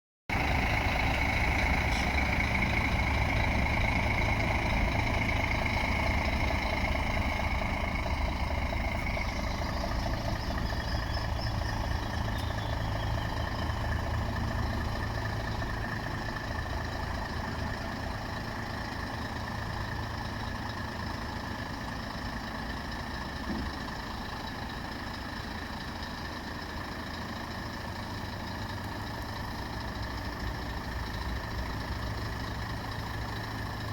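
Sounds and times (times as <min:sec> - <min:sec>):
diesel truck engine idling: 0:00.3 - 0:33.9.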